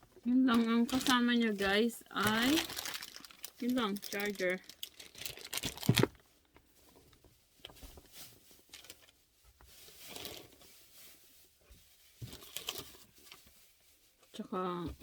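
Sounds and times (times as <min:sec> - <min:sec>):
packaging rustling: 0:00.0 - 0:14.3.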